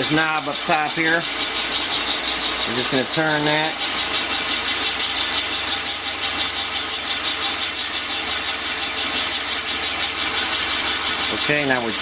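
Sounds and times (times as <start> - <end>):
boring machine whine and cutting: 0.0 - 12.0.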